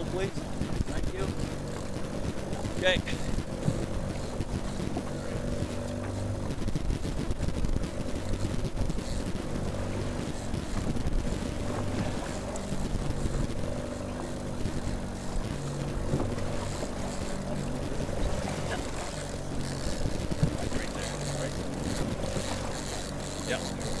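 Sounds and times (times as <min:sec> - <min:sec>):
outboard motor humming: 0:00.0 - 0:24.0
water noise: 0:00.0 - 0:24.0
wind: 0:00.0 - 0:24.0.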